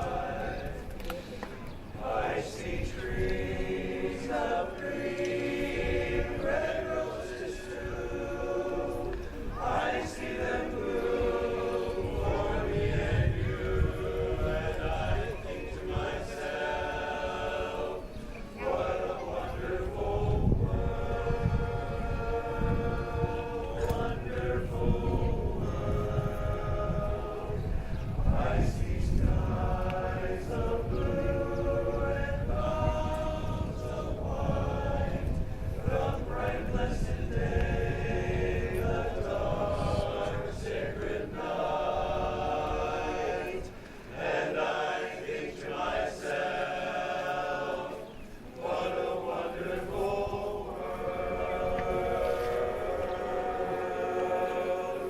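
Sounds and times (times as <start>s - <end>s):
group singing sustained chords: 0.0s - 55.0s.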